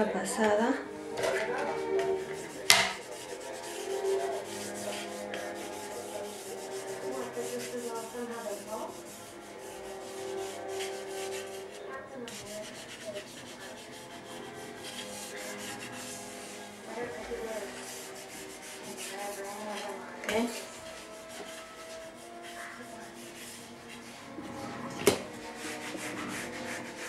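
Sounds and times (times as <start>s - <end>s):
smoother scraping fondant: 0.9s - 27.0s.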